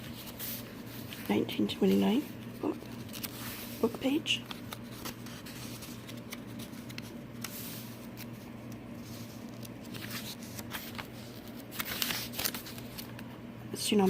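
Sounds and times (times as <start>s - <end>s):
paper rustling and crinkling: 0.0s - 13.3s
steady low hum: 0.0s - 14.0s.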